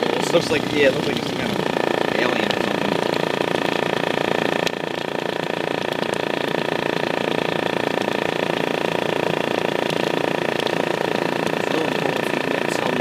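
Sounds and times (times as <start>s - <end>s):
subwoofer buzzing low tone: 0.0s - 13.0s.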